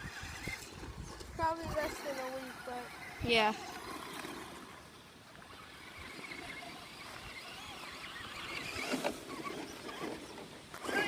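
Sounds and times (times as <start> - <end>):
electric motor whining: 0.0 - 11.0
steady outdoor hiss: 0.0 - 11.0.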